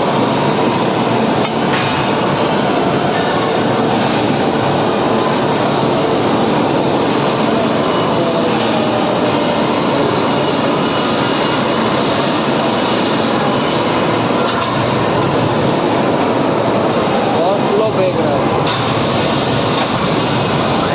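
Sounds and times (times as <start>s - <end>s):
industrial machinery noise: 0.0s - 20.9s.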